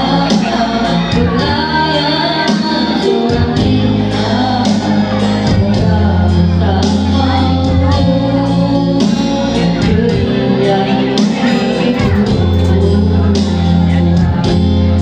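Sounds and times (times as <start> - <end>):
loud music with singing: 0.0 - 15.0.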